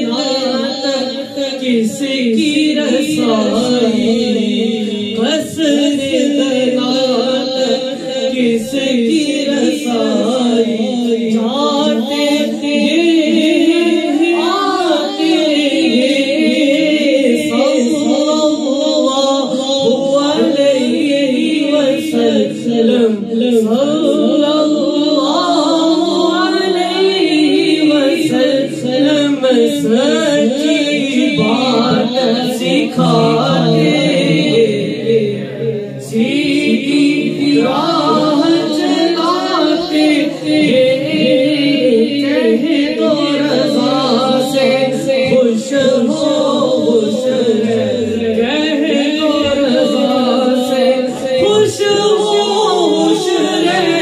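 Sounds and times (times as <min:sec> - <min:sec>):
low drone of held voices: 0:00.0 - 0:54.0
man singing into a microphone: 0:00.0 - 0:54.0.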